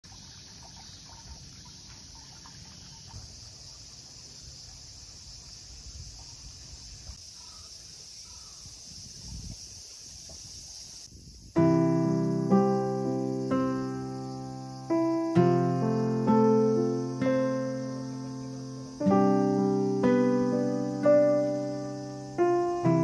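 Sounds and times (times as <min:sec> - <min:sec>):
high-pitched insect drone: 0:03.6 - 0:23.0.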